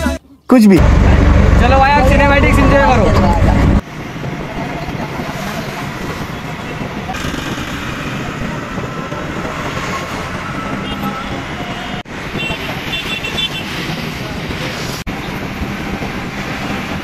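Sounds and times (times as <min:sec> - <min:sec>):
road noise: 0:00.0 - 0:17.0
auto-rickshaw engine: 0:00.8 - 0:17.0.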